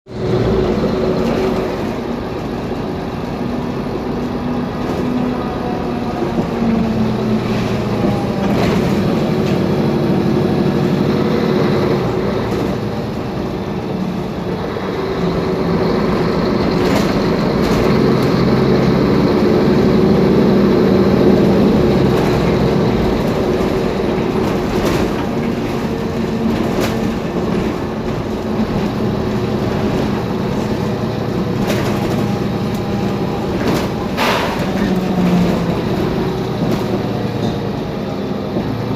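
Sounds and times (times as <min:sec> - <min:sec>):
bus diesel engine running: 0:00.1 - 0:38.9.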